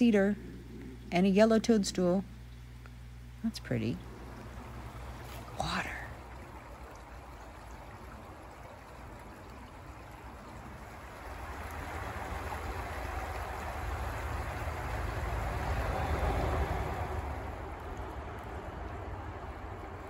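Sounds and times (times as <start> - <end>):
stream running over stones: 3.5 - 20.0.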